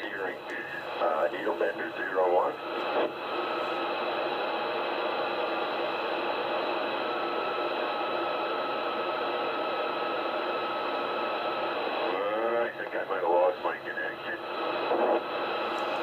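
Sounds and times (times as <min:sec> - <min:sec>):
radio receiver hiss: 0:00.0 - 0:16.0.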